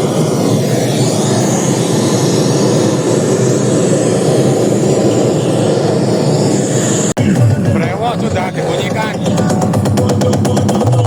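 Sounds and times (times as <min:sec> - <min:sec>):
loud rumbling noise: 0:00.0 - 0:11.0.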